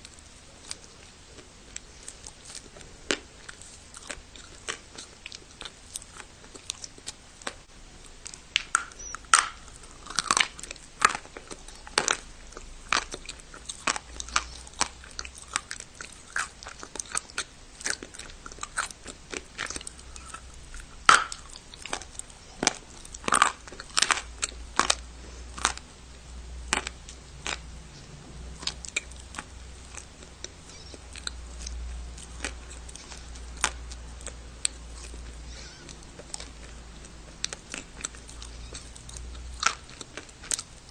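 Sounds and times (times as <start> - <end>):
person chewing dry clay: 0.0 - 40.9.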